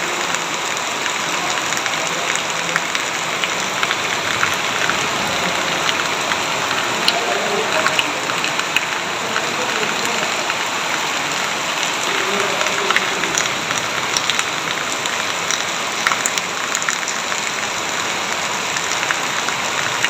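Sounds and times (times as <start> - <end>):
heavy rain: 0.0 - 20.0
raindrops ticking: 0.0 - 20.0.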